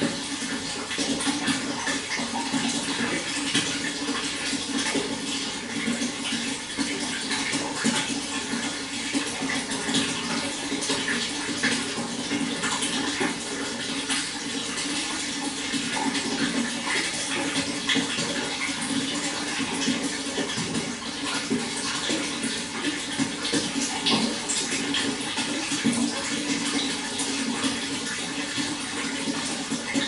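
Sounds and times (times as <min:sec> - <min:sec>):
water splashing and trickling: 0:00.0 - 0:30.0.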